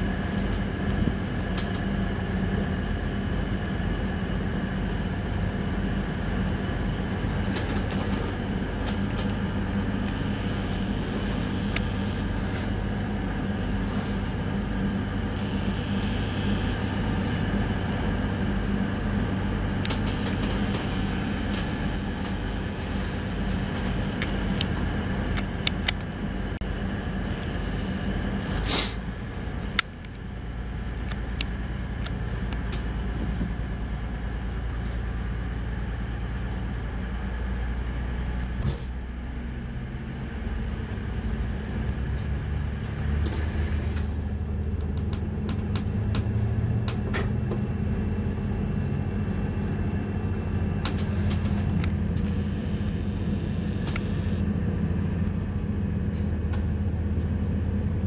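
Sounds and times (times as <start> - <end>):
train diesel engine hum: 0.0 - 58.0.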